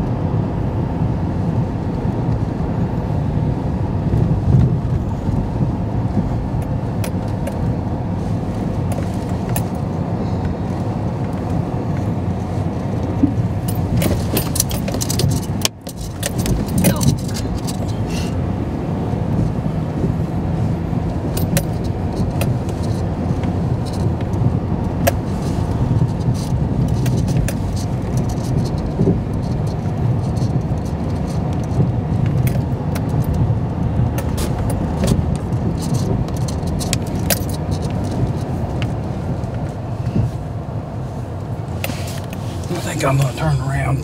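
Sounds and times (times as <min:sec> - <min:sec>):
truck engine and tyre rumble: 0:00.0 - 0:44.0
light rattles and clicks: 0:04.1 - 0:18.4, 0:19.3 - 0:40.6.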